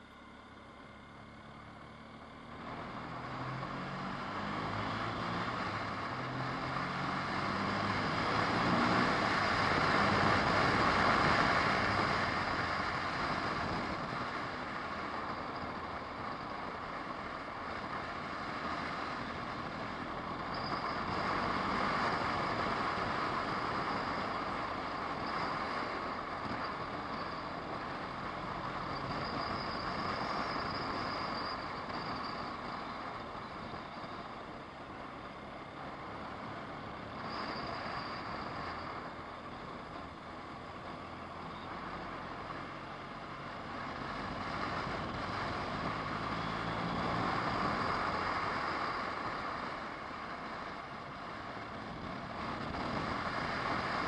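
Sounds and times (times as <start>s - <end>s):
car engine accelerating: 0.0s - 54.0s
tyre road noise: 0.0s - 54.0s.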